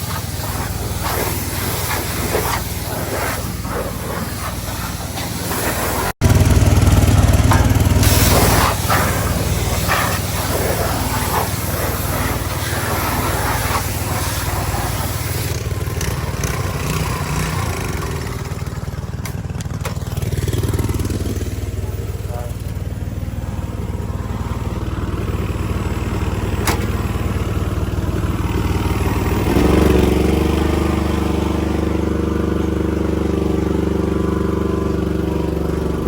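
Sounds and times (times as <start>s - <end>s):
small gasoline engine running: 0.0s - 36.0s.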